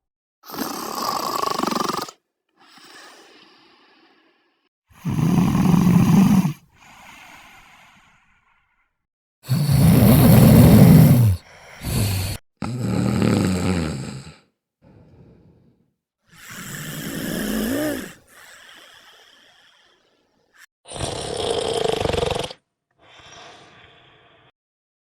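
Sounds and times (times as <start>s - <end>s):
person snoring: 0.5s - 8.5s, 9.4s - 24.6s.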